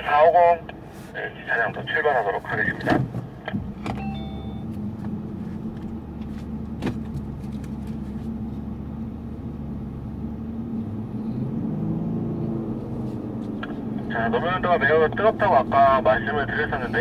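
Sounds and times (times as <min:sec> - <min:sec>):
car driving low drone: 0:00.0 - 0:17.0.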